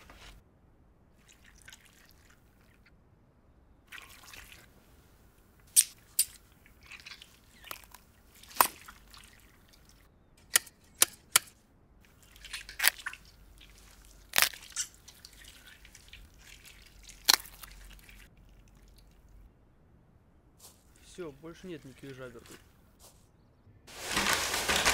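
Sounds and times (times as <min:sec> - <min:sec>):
wet crunching and squishing: 0:01.2 - 0:02.9, 0:03.9 - 0:19.5, 0:20.6 - 0:23.2.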